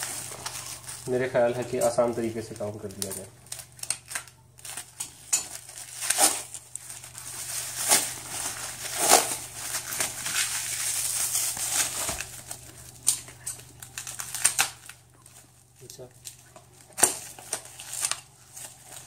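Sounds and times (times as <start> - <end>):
plastic stretch wrap crinkling: 0.0 - 19.0.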